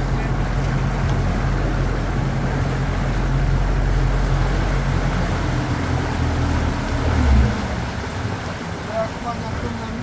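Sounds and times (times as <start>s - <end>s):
boat engine humming: 0.0s - 10.0s
water rushing along hull: 0.0s - 10.0s.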